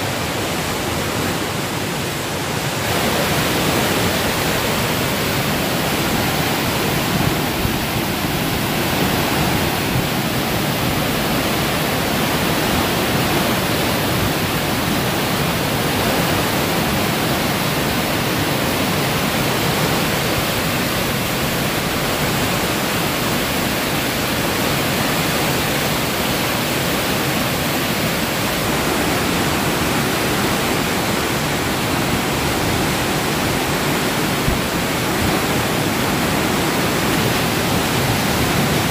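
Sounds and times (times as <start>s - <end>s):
water rushing under sluice gate: 0.0s - 38.9s.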